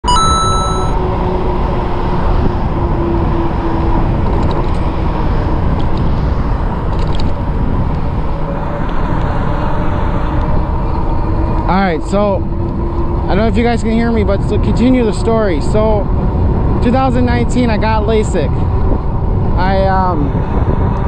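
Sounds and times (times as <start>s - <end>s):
bike road noise: 0.1s - 21.0s
wind buffeting microphone: 1.4s - 21.0s.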